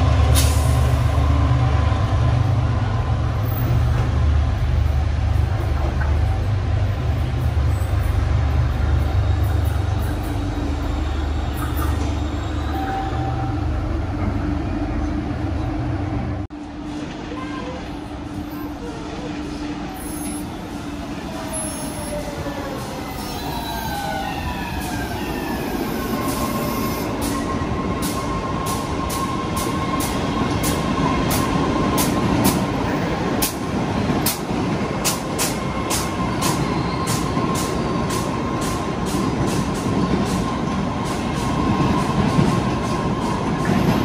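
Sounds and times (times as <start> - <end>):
subway train motors whining: 0.0 - 44.0.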